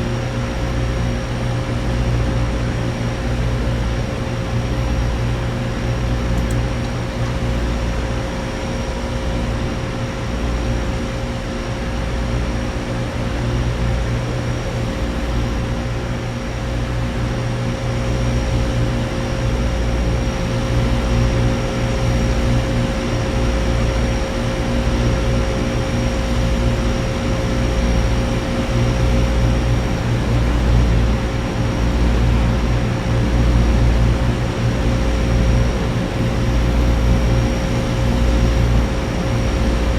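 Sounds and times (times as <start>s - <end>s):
compressor hum: 0.0s - 39.9s
condenser fans rushing: 0.0s - 39.9s.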